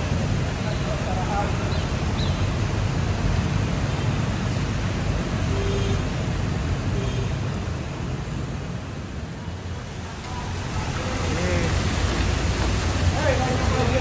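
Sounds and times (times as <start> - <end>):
rain hissing: 0.0 - 14.0
wet traffic: 0.0 - 14.0.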